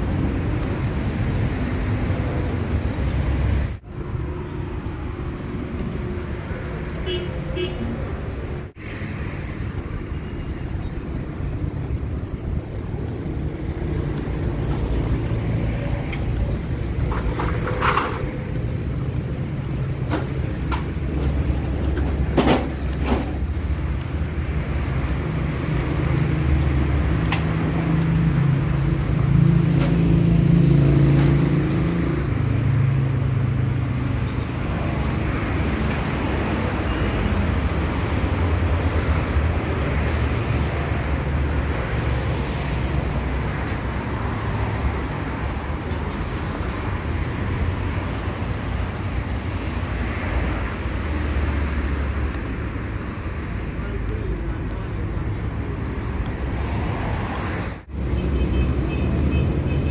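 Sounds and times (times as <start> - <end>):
passing cars rumble: 0.0 - 10.8, 11.4 - 59.9.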